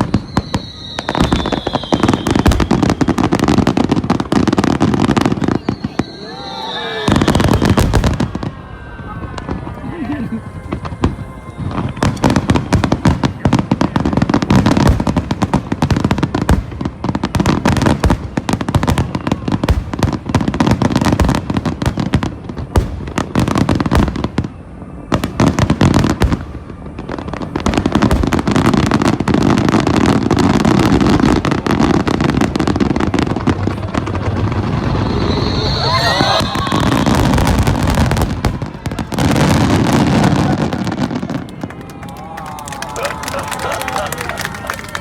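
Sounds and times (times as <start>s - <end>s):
fireworks bursts and crackling bangs: 0.0s - 45.0s.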